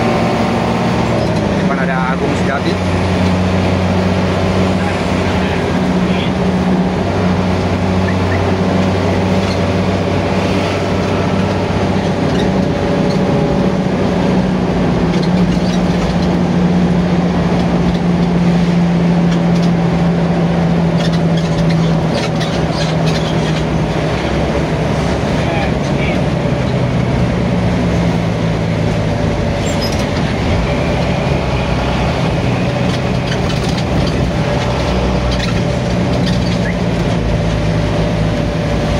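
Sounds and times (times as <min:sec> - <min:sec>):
bus diesel engine drone: 0:00.0 - 0:38.9
road noise: 0:00.0 - 0:38.9.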